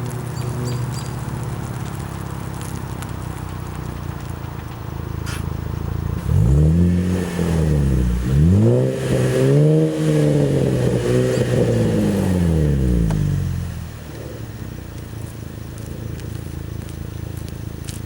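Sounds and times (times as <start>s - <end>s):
car exhaust accelerating: 0.0s - 18.0s.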